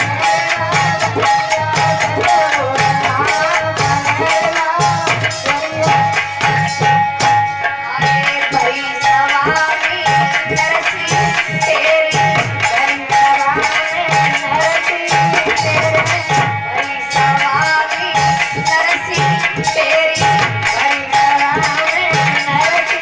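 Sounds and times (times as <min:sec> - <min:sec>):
hand drums beating: 0:00.0 - 0:23.0.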